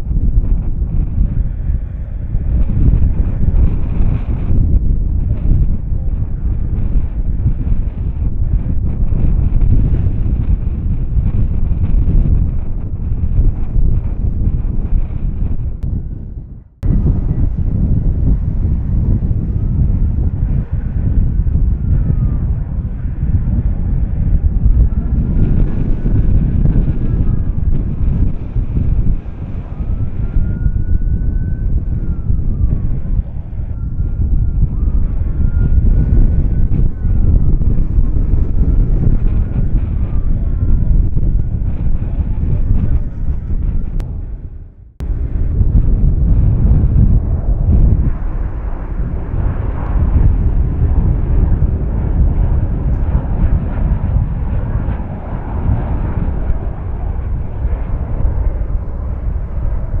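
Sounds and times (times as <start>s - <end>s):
high engine whine: 0.0s - 60.0s
jet engines rumbling: 0.0s - 60.0s.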